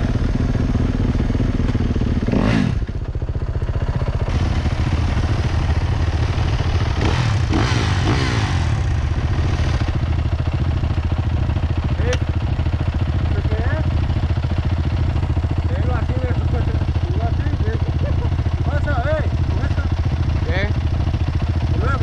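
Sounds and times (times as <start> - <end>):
dirt bike engine revving: 0.0 - 3.0, 4.0 - 22.0.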